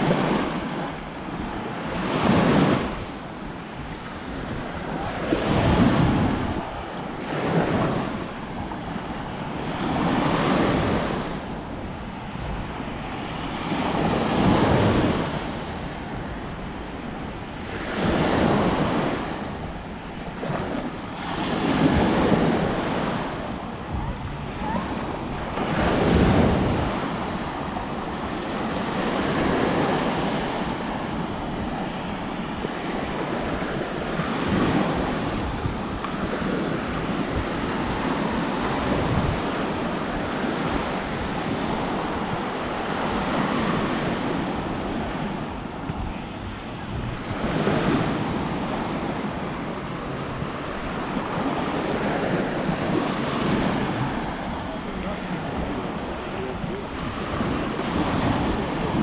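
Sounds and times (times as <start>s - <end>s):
waves washing up a sandy shore: 0.0s - 59.0s
wind buffeting microphone: 0.0s - 59.0s.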